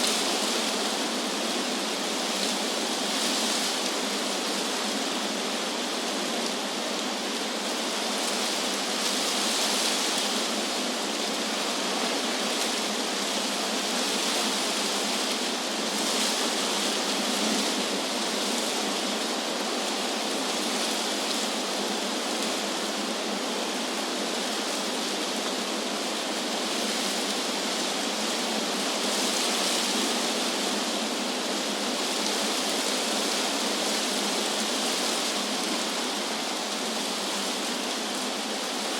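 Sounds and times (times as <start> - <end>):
wind rustling tree leaves: 0.0 - 38.9.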